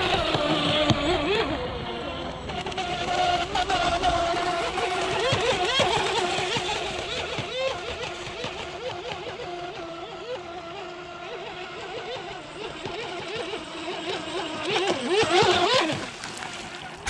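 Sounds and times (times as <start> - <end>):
rc speedboat motor whine: 0.0 - 17.0.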